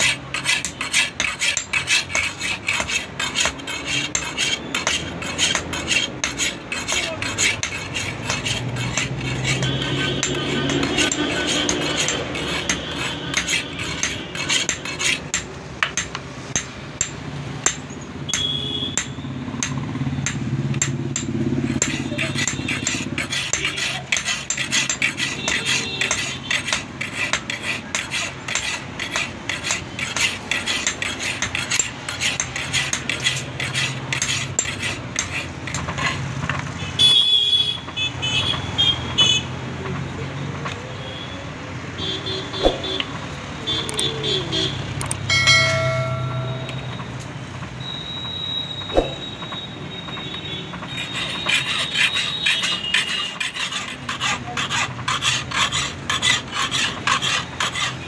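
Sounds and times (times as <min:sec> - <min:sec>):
file scraping steel blade: 0:00.0 - 0:36.7, 0:42.0 - 0:47.2, 0:48.9 - 0:49.6, 0:50.7 - 0:58.0.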